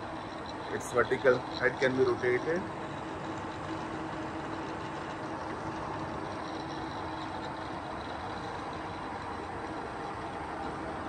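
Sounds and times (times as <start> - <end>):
faint steady tone: 0.0 - 11.0
mechanical hum: 0.0 - 11.0.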